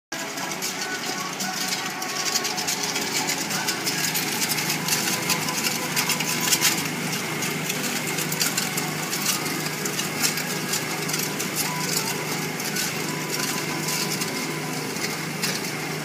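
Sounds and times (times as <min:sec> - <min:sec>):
mixer motor hum: 0:00.2 - 0:16.0
powder crackling hiss in drum: 0:00.2 - 0:16.0.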